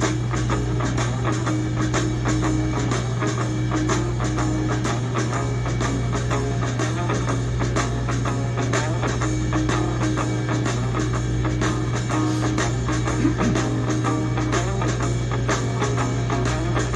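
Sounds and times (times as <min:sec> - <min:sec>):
background music with steady beat: 0:00.0 - 0:16.9.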